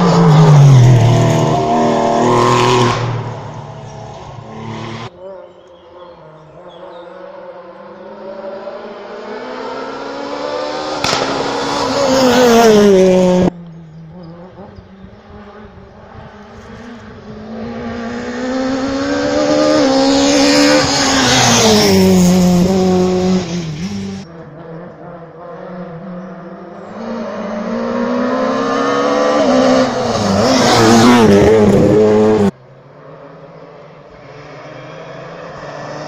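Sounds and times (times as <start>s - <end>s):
rally cars passing at speed: 0.0s - 36.0s.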